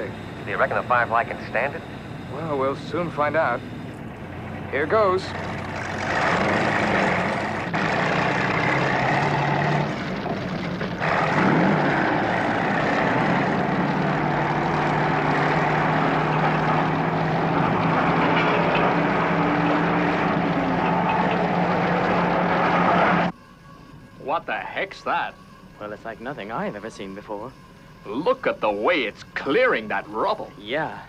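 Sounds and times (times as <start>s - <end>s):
heavy vehicle engine running: 0.0s - 30.8s.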